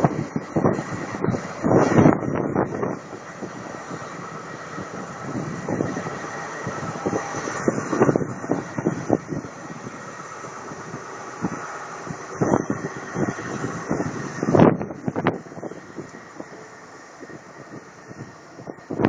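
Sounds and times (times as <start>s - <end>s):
train diesel engine working: 0.0s - 19.0s.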